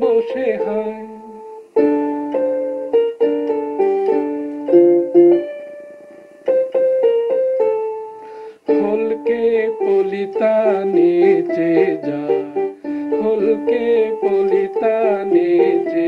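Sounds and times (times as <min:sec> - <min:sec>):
electric piano melody: 0:00.0 - 0:16.0.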